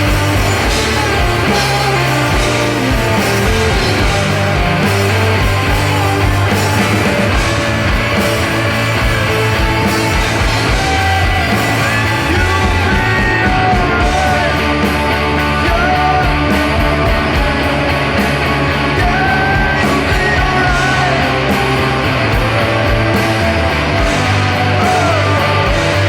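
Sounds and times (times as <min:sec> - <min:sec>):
live rock band playing: 0:00.0 - 0:26.0
person singing or shouting: 0:00.0 - 0:26.0.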